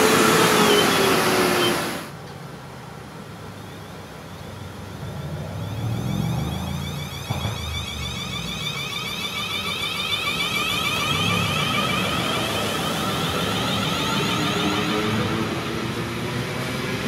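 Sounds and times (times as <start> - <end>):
train motors whining: 0.0 - 2.2, 5.0 - 17.0.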